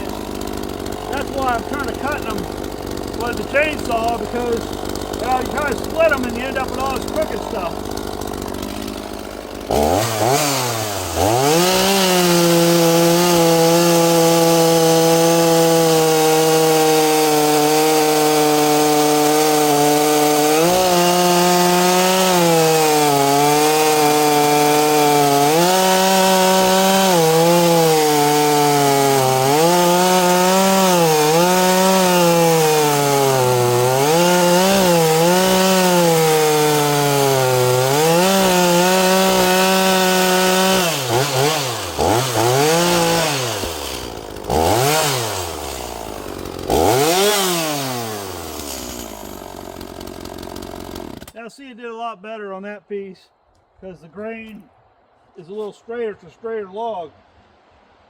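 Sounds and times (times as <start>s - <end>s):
chainsaw cutting log: 0.0s - 51.4s.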